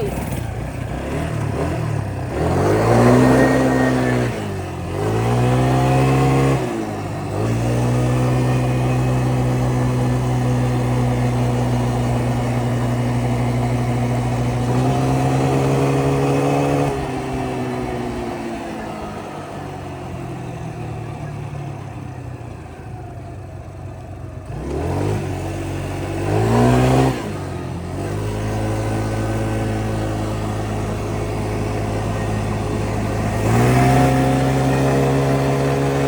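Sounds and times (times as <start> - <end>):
small engine revving: 0.0 - 36.0.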